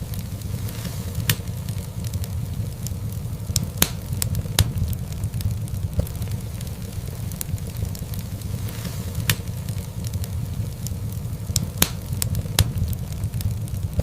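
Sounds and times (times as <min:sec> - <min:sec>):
sharp pops of burning logs: 0:00.0 - 0:14.0
wood fire crackling: 0:00.0 - 0:14.0.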